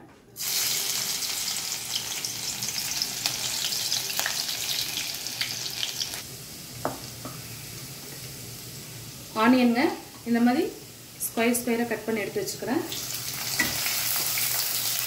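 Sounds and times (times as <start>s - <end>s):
garlic sizzling in hot oil: 0.4s - 15.0s.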